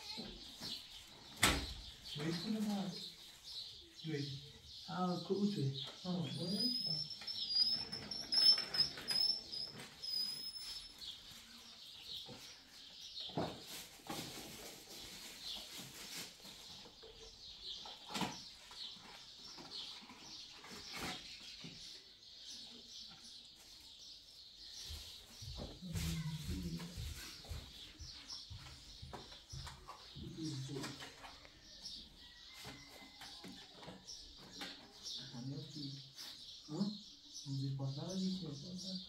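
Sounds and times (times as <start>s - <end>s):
birds chirping: 0.0s - 13.8s, 14.9s - 39.0s.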